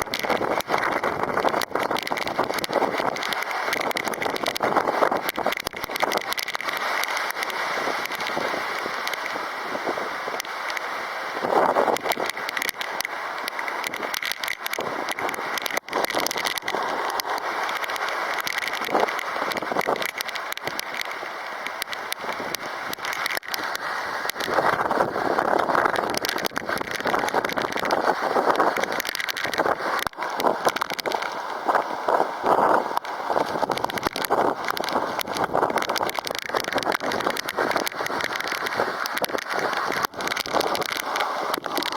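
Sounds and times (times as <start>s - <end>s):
rain crackling on microphone: 0.0s - 41.9s
wind buffeting microphone: 0.0s - 41.9s.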